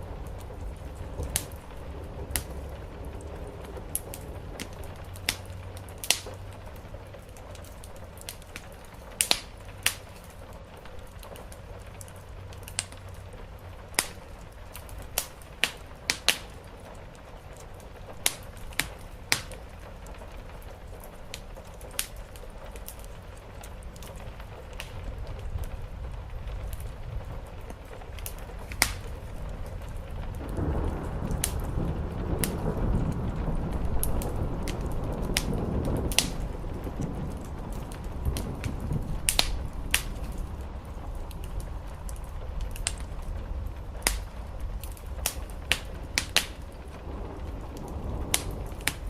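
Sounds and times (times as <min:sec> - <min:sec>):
rain on the roof: 0:00.0 - 0:49.0
wood fire crackling and popping: 0:00.0 - 0:49.0.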